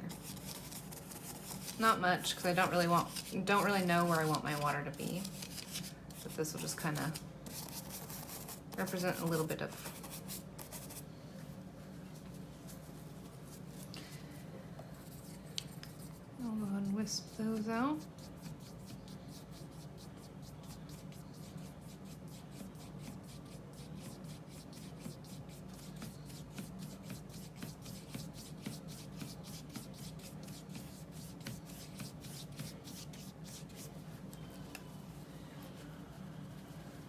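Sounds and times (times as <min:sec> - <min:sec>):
paintbrush rubbing on paper: 0:00.0 - 0:11.0, 0:14.9 - 0:37.0.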